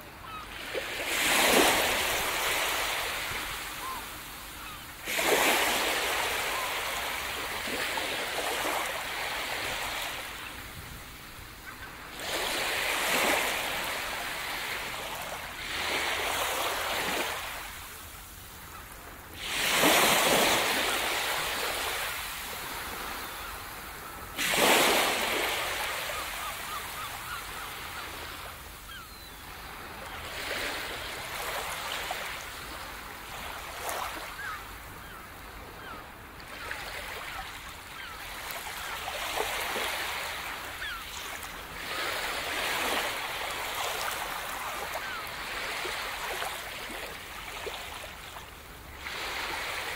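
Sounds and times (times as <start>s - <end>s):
small waves breaking on beach: 0.0s - 49.9s.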